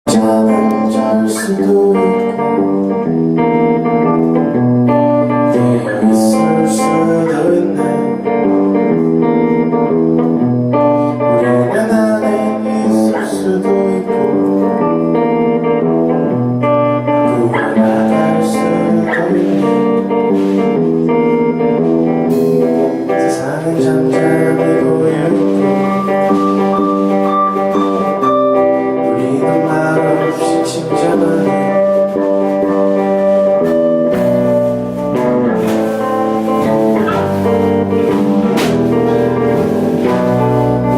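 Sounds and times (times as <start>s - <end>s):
guitar chords: 0.0s - 40.9s
rock band playing live: 0.1s - 40.9s.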